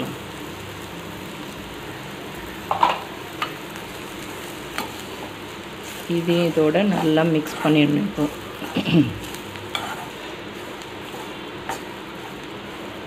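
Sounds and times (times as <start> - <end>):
onions frying with steady sizzle: 0.0 - 13.0.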